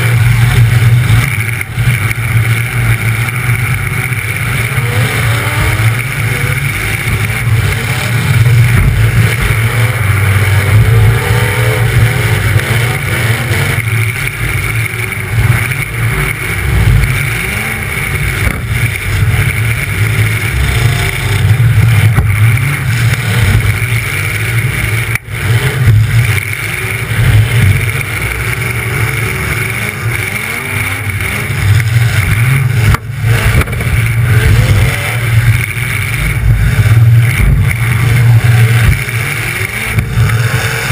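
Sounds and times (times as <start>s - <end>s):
loud car engine revving: 0.0s - 40.9s
other car engines running: 0.0s - 40.9s.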